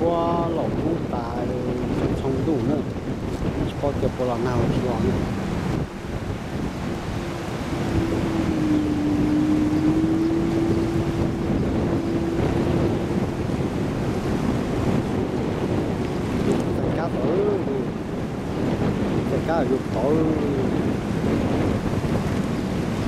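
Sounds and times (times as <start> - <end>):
boat motor humming: 0.0 - 23.0
wind buffeting microphone: 0.0 - 23.0.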